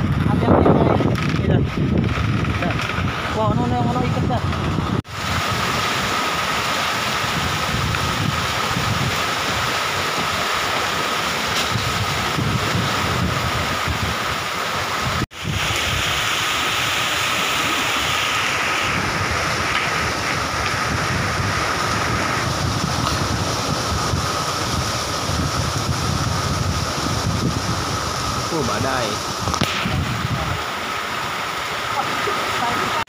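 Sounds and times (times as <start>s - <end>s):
choppy sea: 0.0s - 33.0s
heavy rain hiss: 0.0s - 33.0s
storm wind buffeting microphone: 0.0s - 33.0s.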